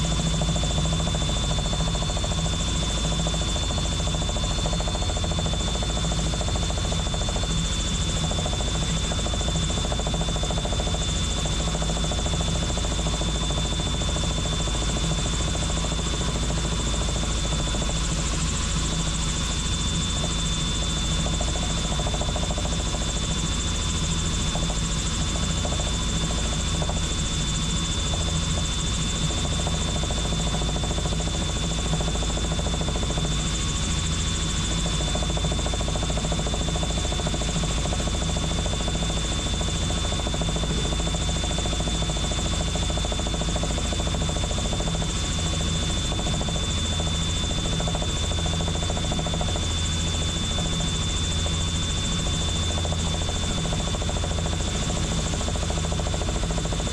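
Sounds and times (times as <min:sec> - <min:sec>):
helicopter rotor and engine: 0:00.0 - 0:56.9.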